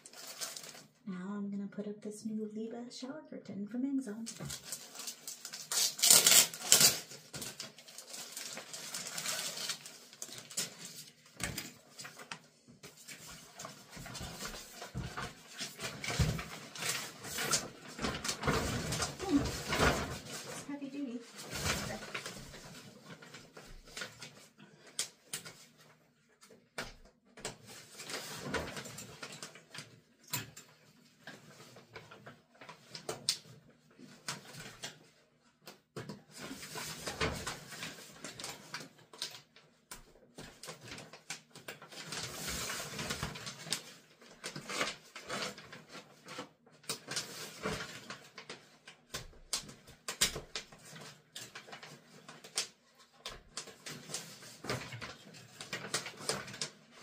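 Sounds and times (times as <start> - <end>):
plastic sheet rustling: 0.0 - 1.1, 3.9 - 57.0.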